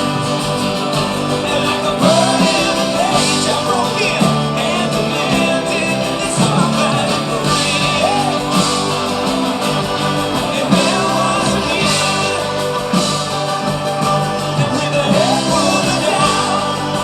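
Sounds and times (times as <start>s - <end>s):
guitar: 0.0s - 17.0s
person singing: 0.0s - 17.0s
rock band playing: 0.0s - 17.0s.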